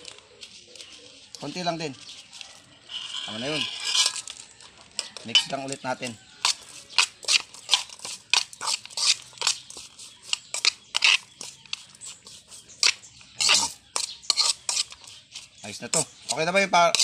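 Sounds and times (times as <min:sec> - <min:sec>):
meat being mixed by hand: 0:00.0 - 0:17.0
spoon clinking and scraping metal: 0:02.0 - 0:17.0.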